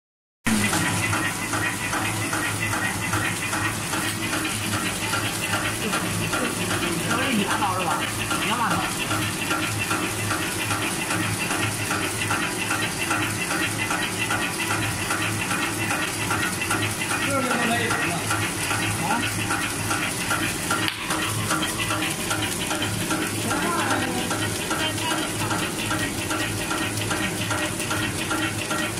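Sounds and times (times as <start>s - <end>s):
packing machine humming and clattering: 0.5s - 28.9s.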